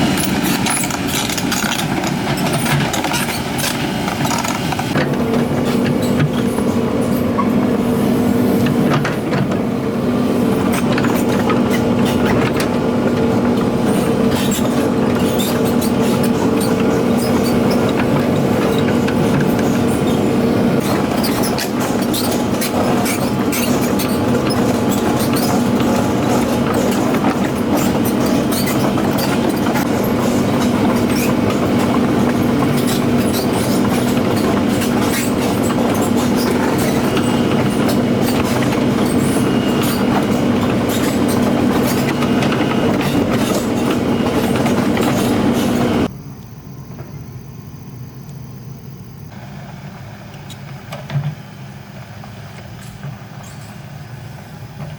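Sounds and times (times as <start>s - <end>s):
diesel engine running: 0.0s - 46.1s
steel tracks clattering and squealing: 0.0s - 46.1s, 49.3s - 54.9s.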